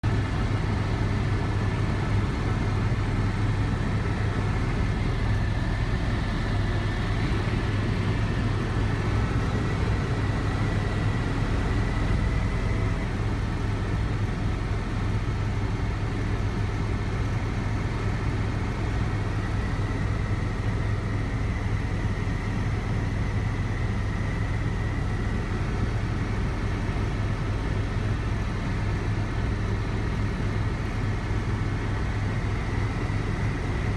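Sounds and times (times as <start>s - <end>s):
helicopter cabin drone: 0.0s - 33.9s.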